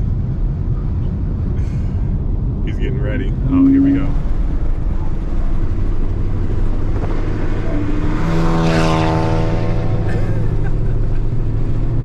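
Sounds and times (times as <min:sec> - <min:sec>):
car exhaust passing by: 0:01.0 - 0:12.0.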